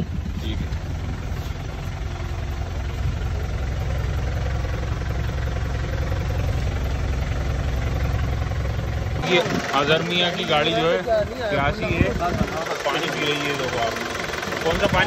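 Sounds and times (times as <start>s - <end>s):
jeep engine idling: 0.0s - 15.0s.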